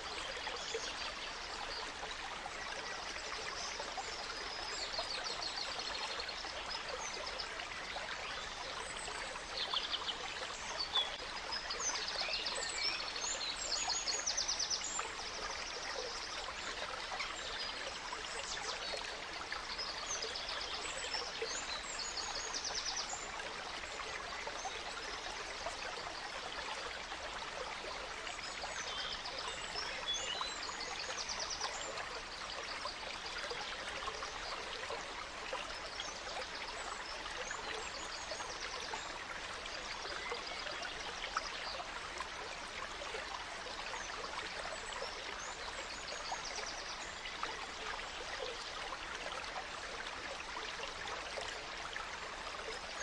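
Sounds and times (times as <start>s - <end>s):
gentle stream running: 0.0s - 53.0s.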